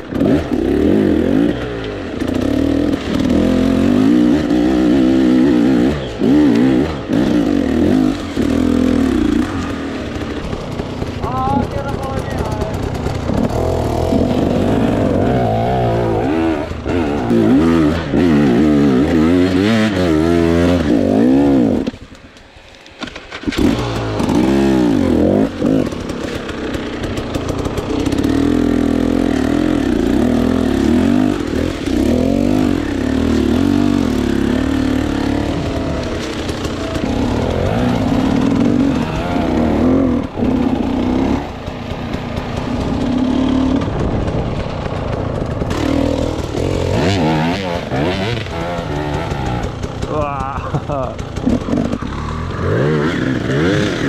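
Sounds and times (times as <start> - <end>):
dirt bike engine revving: 0.0 - 22.2, 23.0 - 54.0.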